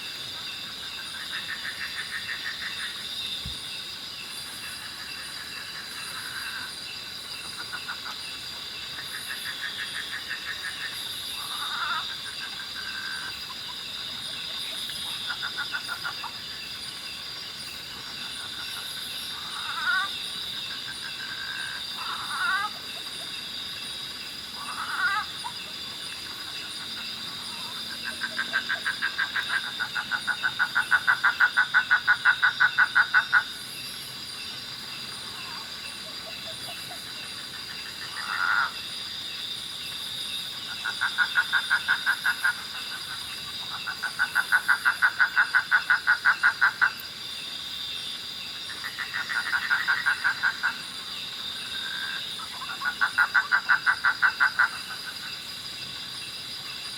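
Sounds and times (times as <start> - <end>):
high-pitched insect drone: 0.0 - 56.9
frog calling in pulse trains: 4.6 - 16.7, 17.6 - 23.4, 24.5 - 33.9, 35.1 - 39.0, 40.2 - 47.1, 48.6 - 56.9.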